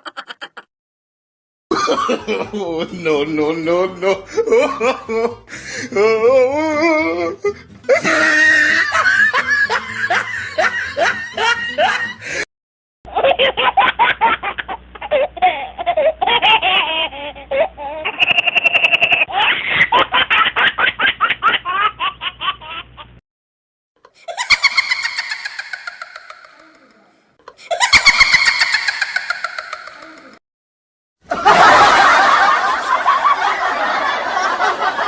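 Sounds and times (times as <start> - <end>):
wavering laughter: 0.0 - 0.7, 1.7 - 12.5, 13.1 - 23.1, 24.1 - 30.4, 31.3 - 35.0.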